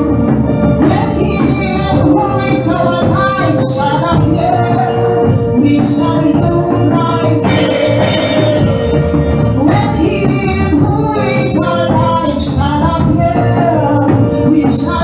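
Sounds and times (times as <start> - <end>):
gospel band playing with singing: 0.0 - 15.0.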